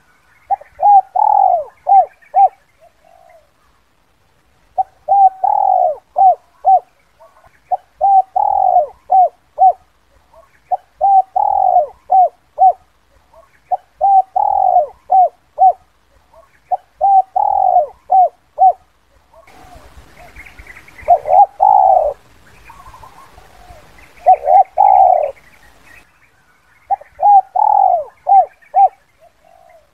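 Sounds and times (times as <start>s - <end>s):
dove cooing: 0.0s - 3.7s, 4.7s - 25.8s, 26.9s - 29.9s
background hiss: 0.0s - 29.9s.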